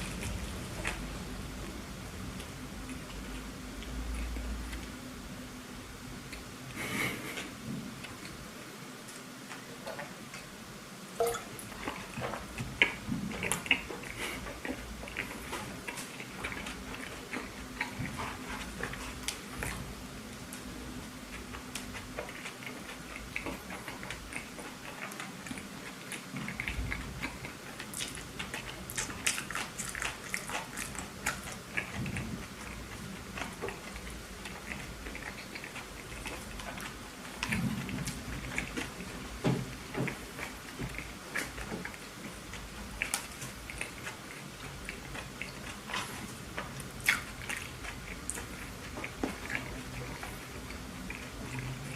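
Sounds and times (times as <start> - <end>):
person chewing food: 0.0 - 10.5, 11.2 - 51.9.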